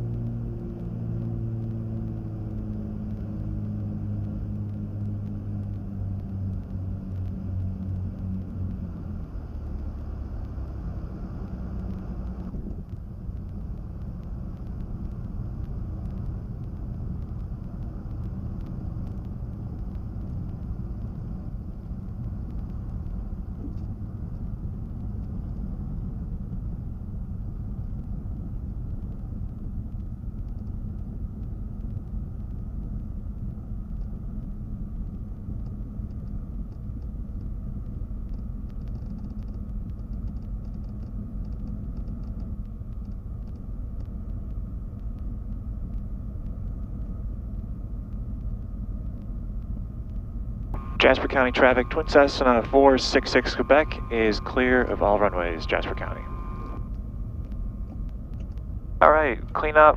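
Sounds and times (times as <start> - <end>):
aircraft engines droning: 0.0 - 59.9.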